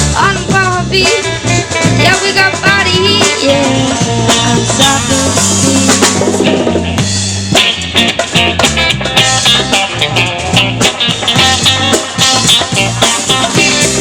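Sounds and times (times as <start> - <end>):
guitar: 0.0 - 14.0
low bass line: 0.0 - 14.0
steady drum beat: 0.0 - 14.0.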